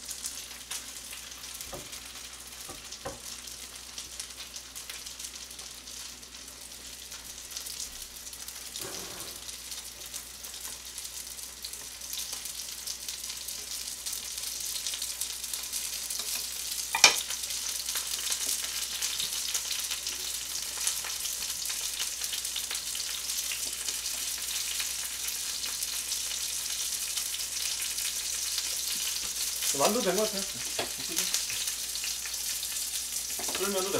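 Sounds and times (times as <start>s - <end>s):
dumplings sizzling in frying pan: 0.0s - 33.9s.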